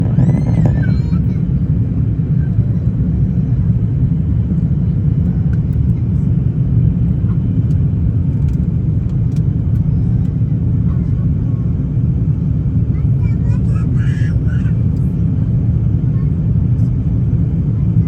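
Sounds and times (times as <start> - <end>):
airliner rumble in flight: 0.0 - 18.0.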